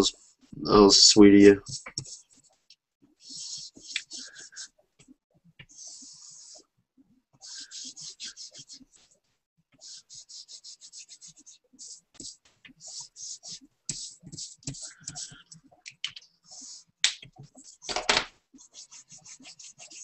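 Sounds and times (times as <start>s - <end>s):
pencil scratching on paper: 1.5s - 4.8s, 5.6s - 6.7s, 7.4s - 20.0s.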